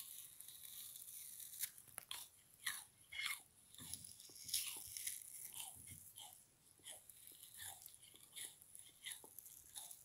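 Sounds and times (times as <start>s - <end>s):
chewing frozen sponge crunches: 0.0s - 10.0s.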